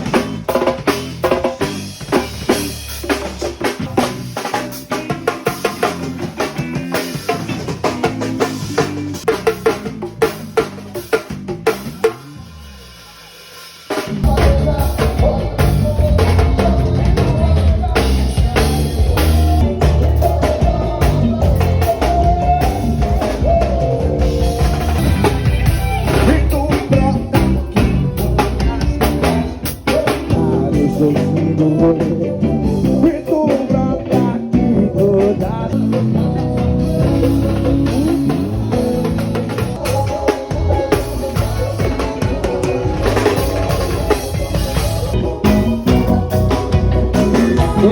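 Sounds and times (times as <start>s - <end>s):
live band playing amplified music: 0.0s - 47.9s.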